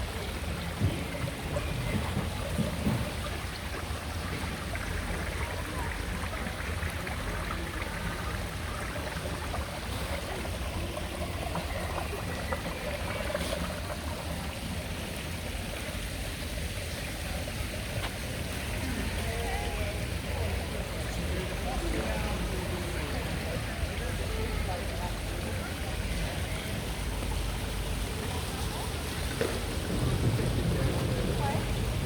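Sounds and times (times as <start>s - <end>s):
water running in a stream: 0.0s - 32.0s.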